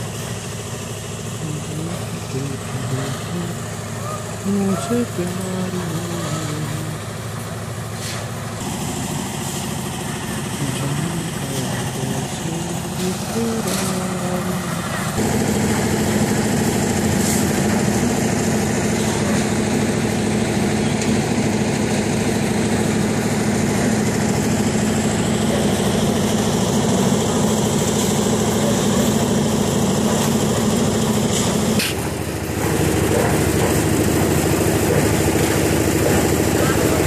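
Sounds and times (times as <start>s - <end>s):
small machinery engine running: 0.0s - 37.0s.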